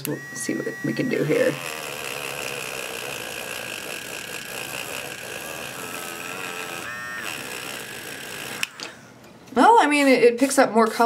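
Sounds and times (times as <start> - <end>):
electric eraser motor buzzing: 0.0 - 9.1.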